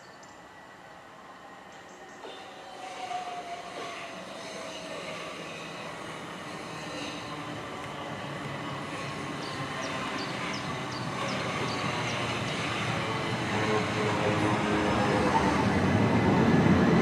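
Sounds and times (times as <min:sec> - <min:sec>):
electric train rumble and rail noise: 0:00.0 - 0:17.0.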